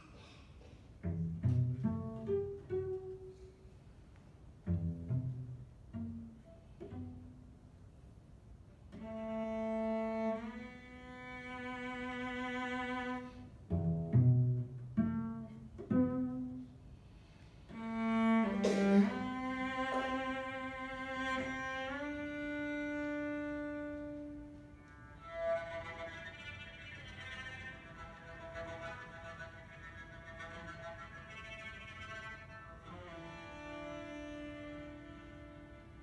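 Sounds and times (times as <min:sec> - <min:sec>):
solo cello bowed notes: 0:01.0 - 0:03.7, 0:04.5 - 0:07.7, 0:08.9 - 0:16.9, 0:17.6 - 0:36.0.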